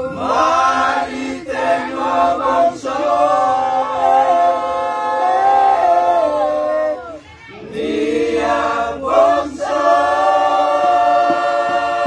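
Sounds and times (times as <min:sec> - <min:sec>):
men singing unaccompanied chant: 0:00.0 - 0:12.0.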